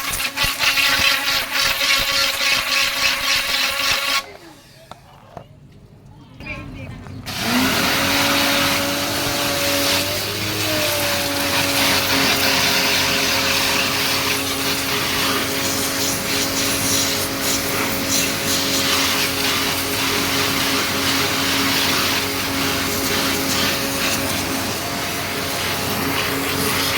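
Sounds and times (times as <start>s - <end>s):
electric pressure washer running: 0.0s - 4.9s, 7.2s - 26.9s.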